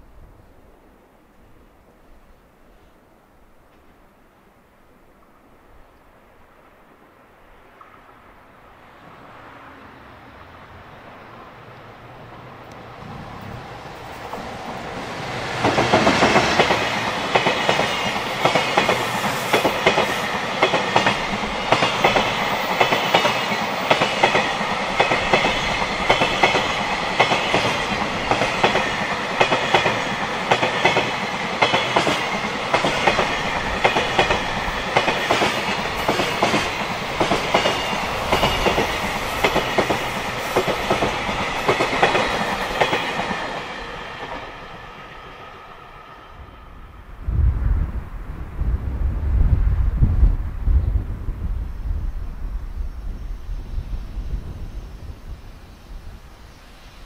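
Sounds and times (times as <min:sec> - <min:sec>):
electric locomotive passing: 0:00.0 - 0:57.0.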